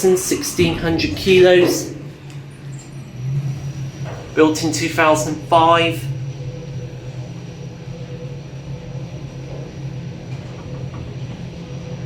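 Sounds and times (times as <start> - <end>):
faint steady whine: 0.0 - 12.0
lift low hum: 0.0 - 12.0.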